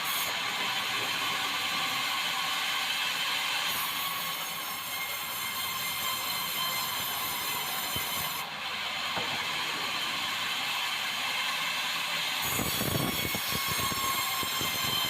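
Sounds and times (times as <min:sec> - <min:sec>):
sawmill blade whining: 0:00.0 - 0:15.0.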